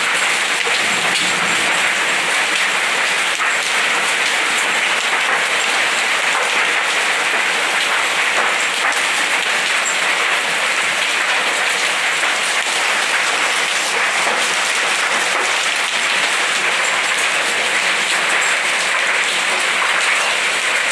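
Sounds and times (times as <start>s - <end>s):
hail and rain pelting: 0.0s - 20.9s.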